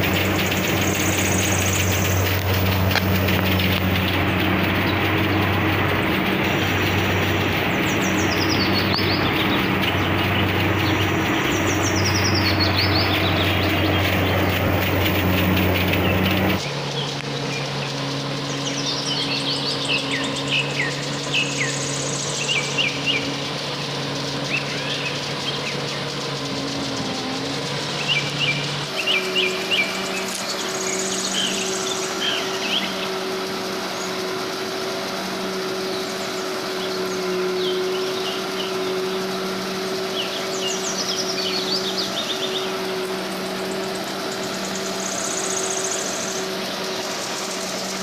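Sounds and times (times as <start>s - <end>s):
combine harvester running: 0.0s - 48.0s
high bird trill: 0.0s - 48.0s
low engine drone: 0.0s - 48.0s
small birds chirping: 0.0s - 48.0s.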